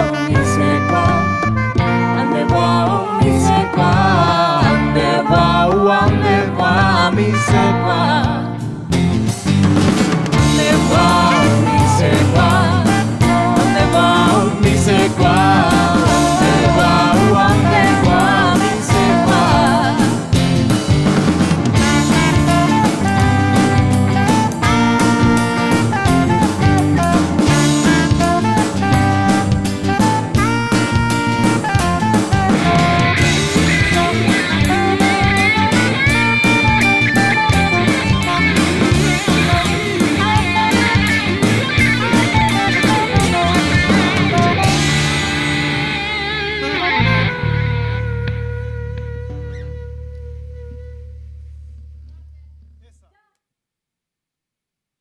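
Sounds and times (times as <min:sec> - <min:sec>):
saxophone melody: 0:00.0 - 0:08.7, 0:10.4 - 0:51.8
drum kit beat: 0:00.0 - 0:47.3
live band playing: 0:00.0 - 0:51.4.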